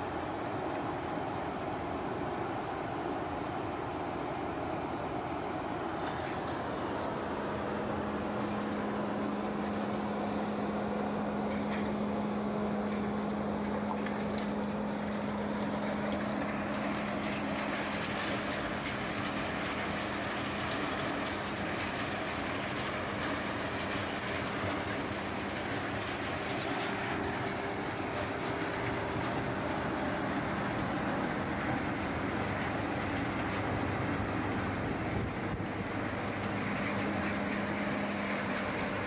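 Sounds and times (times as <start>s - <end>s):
compost turner machine running: 0.0s - 39.0s.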